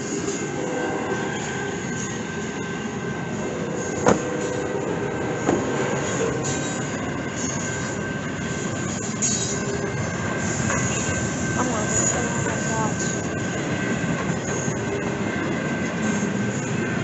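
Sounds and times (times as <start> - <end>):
thin steady squeal: 0.0 - 17.0
train wheels rumbling on rail: 0.0 - 17.0.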